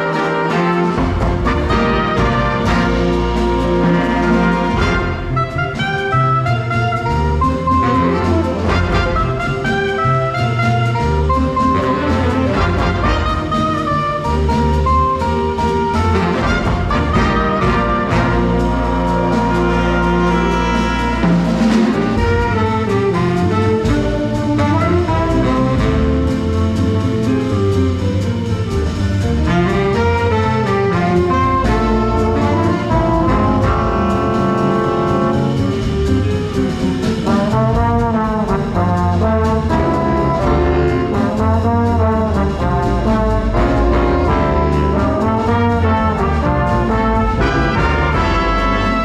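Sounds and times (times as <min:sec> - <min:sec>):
big band jazz with brass: 0:00.0 - 0:49.0.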